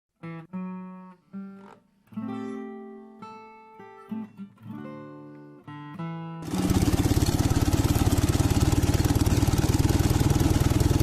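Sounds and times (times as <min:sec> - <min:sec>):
acoustic guitar chords: 0:00.2 - 0:11.0.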